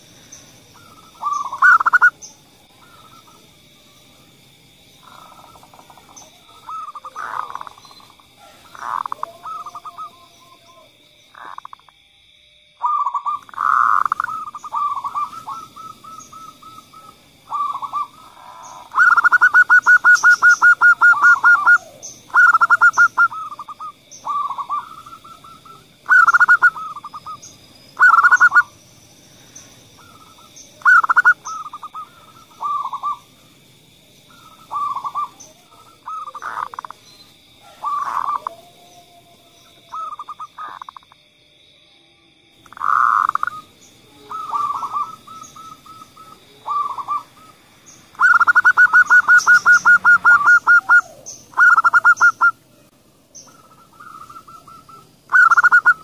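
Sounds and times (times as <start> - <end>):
doves cooing: 0.7 - 3.6, 5.0 - 11.8, 12.8 - 28.8, 29.6 - 33.6, 34.3 - 41.1, 42.7 - 52.6, 53.4 - 56.0.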